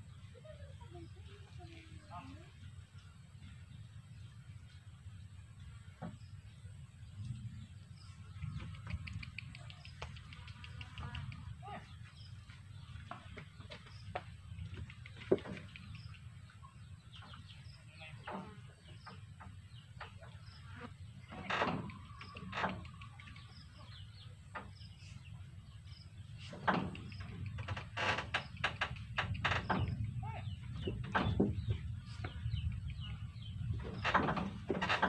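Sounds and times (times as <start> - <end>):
low steady rumble: 0.0 - 35.0
small birds chirping: 0.0 - 35.0.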